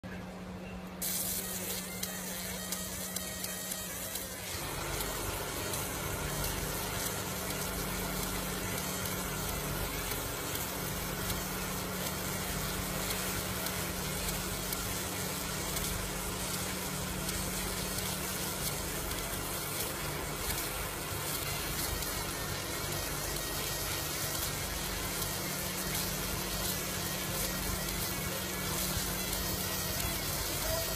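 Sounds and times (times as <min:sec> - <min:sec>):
laser machine humming and hissing: 0:00.4 - 0:30.9.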